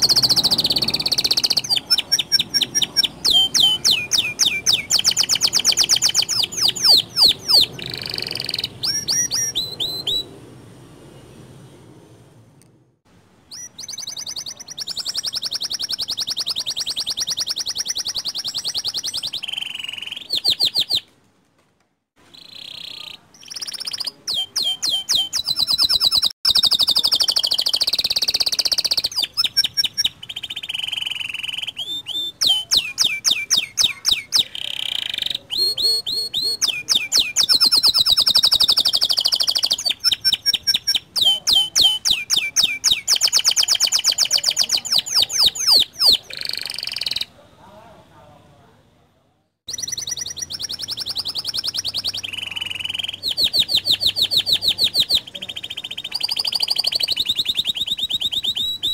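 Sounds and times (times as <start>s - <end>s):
canary singing trills: 0.0s - 10.4s, 13.5s - 21.1s, 22.2s - 47.4s, 49.7s - 58.9s.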